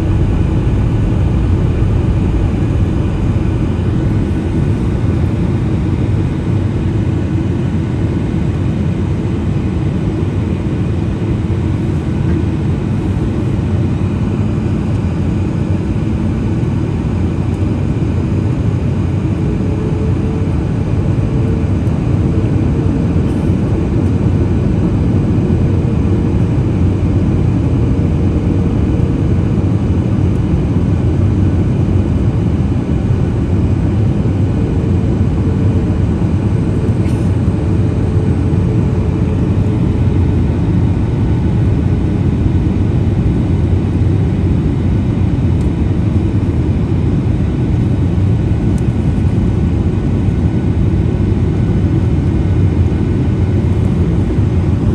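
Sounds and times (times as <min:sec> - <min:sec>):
airliner cabin rumble: 0:00.0 - 0:54.9
faint steady hum: 0:00.0 - 0:54.9.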